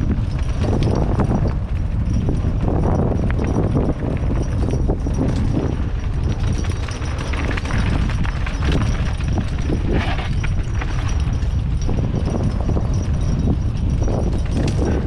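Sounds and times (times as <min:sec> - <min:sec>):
bike rattling over rough trail: 0:00.0 - 0:15.0
wind on microphone: 0:00.0 - 0:15.0.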